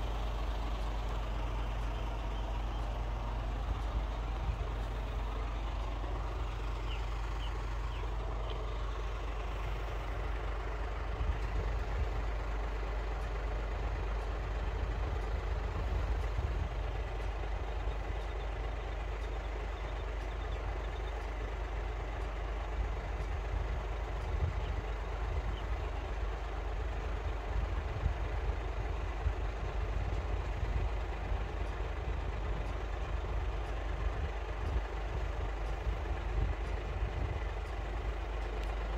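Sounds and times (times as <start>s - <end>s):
idling traffic rumble: 0.0s - 38.9s.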